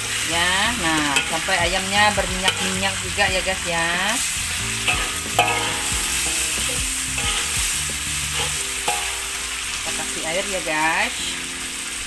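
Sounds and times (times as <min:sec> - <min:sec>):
metal spatula scraping a wok: 0:00.0 - 0:10.0
food sizzling in a wok: 0:00.0 - 0:12.0.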